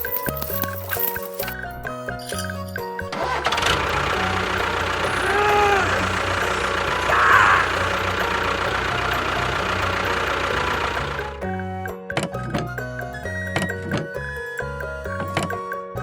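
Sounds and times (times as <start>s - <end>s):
engine idling: 0.0s - 15.7s.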